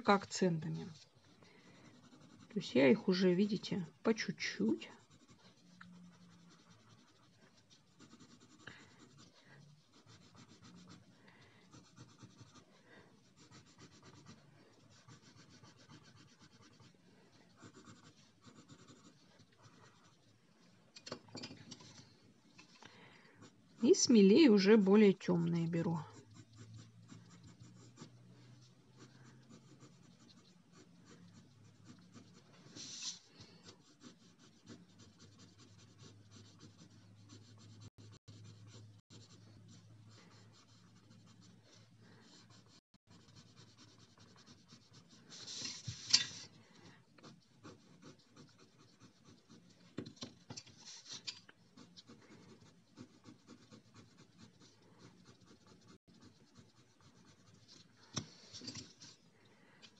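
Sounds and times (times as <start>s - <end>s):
pencil scratching on paper: 0.0s - 20.4s, 23.0s - 59.2s.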